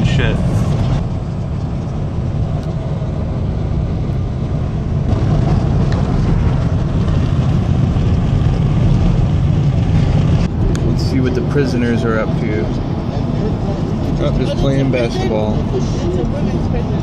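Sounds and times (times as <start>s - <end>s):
road and engine noise in car cabin: 0.0s - 17.0s.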